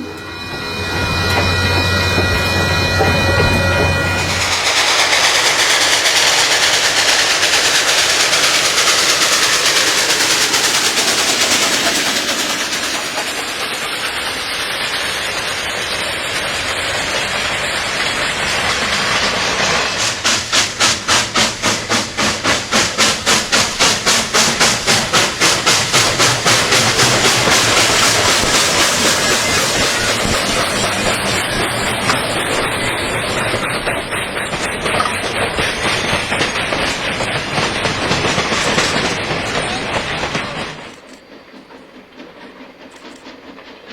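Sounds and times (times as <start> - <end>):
train rushing on tracks: 0.0 - 43.9.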